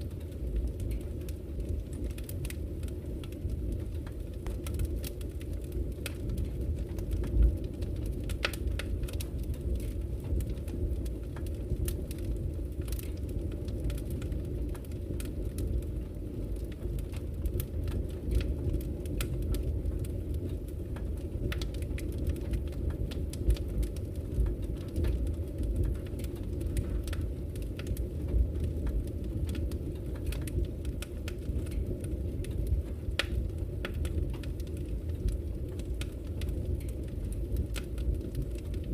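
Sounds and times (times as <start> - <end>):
low rumble of burning fire: 0.0 - 38.9
wood fire crackling and popping: 0.0 - 38.9.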